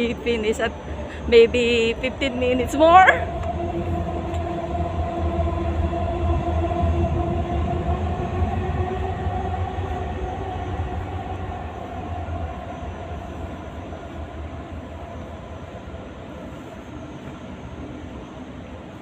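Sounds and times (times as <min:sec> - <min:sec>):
metro train rumbling with whine: 0:00.0 - 0:19.0.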